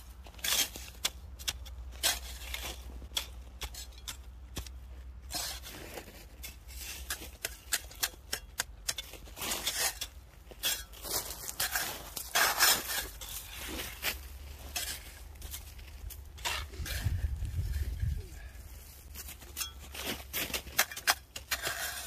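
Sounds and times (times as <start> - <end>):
shovel crunching snow: 0.0 - 22.0
shovel scraping strokes: 0.1 - 22.0.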